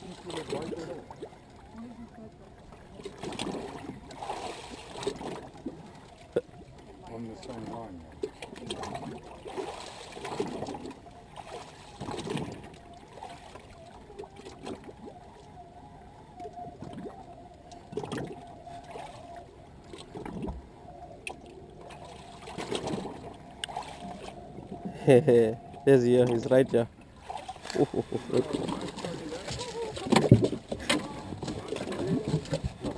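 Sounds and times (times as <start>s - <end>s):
water lapping against boat hull: 0.0s - 32.9s.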